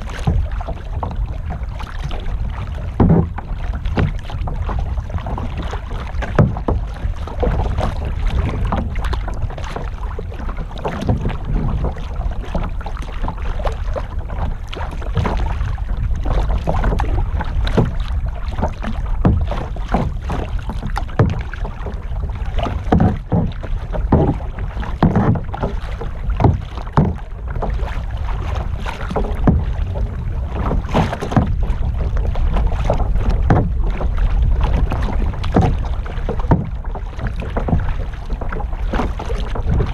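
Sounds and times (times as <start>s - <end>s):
paddle splashing in water: 0.0s - 39.9s
water lapping against hull: 0.0s - 39.9s
wind rumble on microphone: 0.0s - 39.9s.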